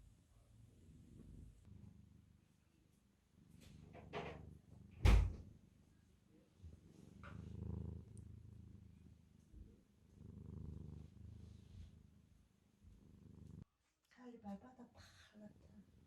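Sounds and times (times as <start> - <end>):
cat purring: 0.0 - 13.7, 15.0 - 16.0.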